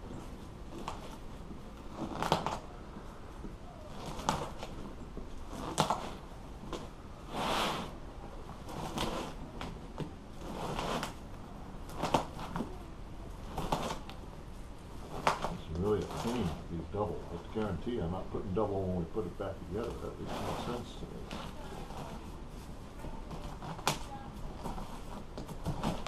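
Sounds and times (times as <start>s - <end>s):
vinyl rustling: 0.0s - 26.0s.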